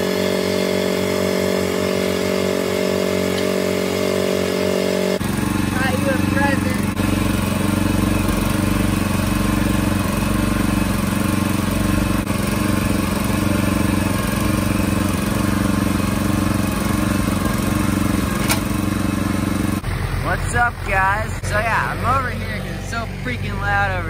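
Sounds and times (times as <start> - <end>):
small gasoline engine running: 0.0 - 24.0.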